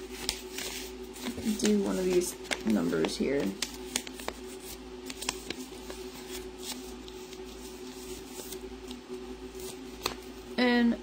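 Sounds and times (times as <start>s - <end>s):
paper rustling: 0.0s - 10.3s
faint steady hum: 0.0s - 11.0s.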